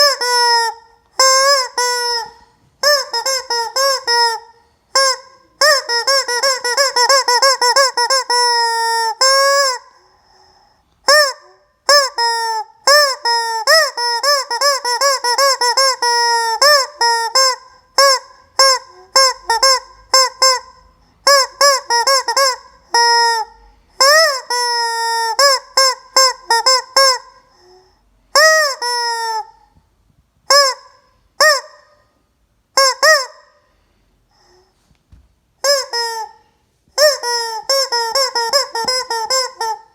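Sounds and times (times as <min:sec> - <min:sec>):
rubber chicken toy squawking: 0:00.0 - 0:29.8, 0:30.5 - 0:32.1, 0:32.7 - 0:33.6, 0:35.6 - 0:39.9.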